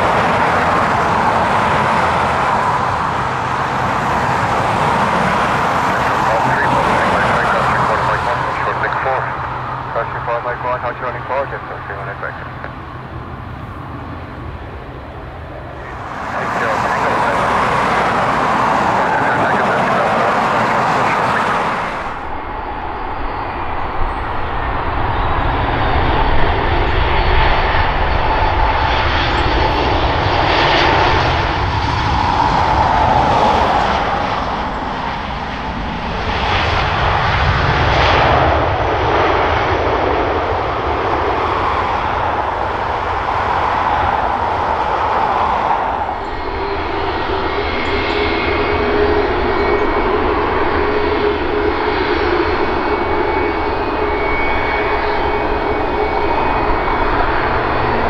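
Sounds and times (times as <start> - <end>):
jet engines roaring on landing: 0.0 - 58.0
taxiing jet engine hum: 0.0 - 58.0.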